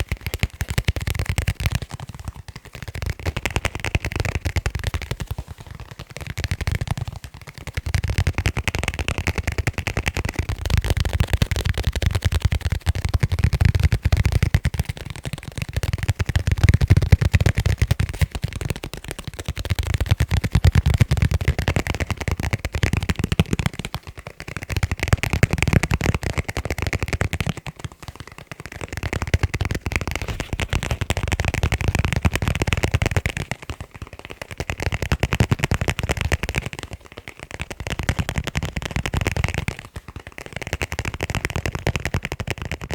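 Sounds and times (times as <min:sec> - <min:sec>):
fast tapping on leather cases: 0:00.0 - 0:42.9.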